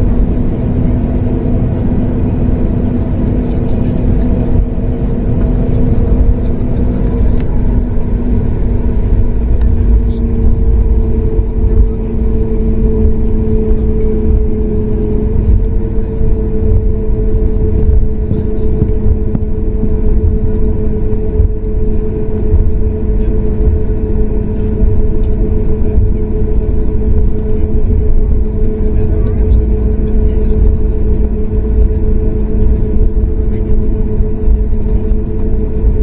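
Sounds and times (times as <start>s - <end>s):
aircraft engines rumbling: 0.0s - 36.0s.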